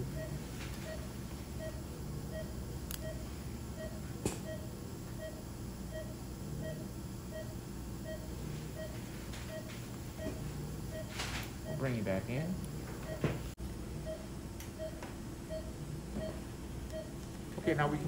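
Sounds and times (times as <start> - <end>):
patient monitor beeping: 0.0 - 18.0
steady low hum: 0.0 - 18.0.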